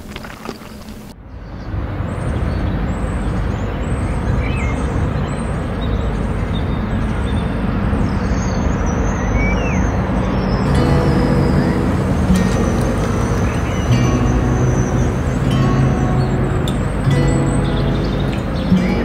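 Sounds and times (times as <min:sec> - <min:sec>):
outdoor ambience: 0:00.0 - 0:19.0.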